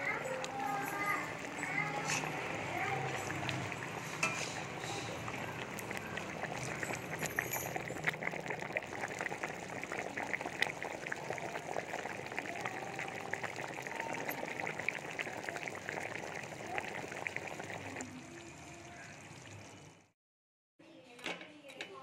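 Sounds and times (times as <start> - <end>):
gravy bubbling in a pan: 0.0 - 20.1.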